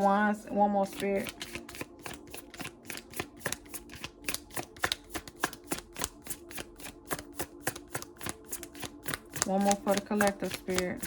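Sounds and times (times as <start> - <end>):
cards being shuffled by hand: 0.0 - 11.0.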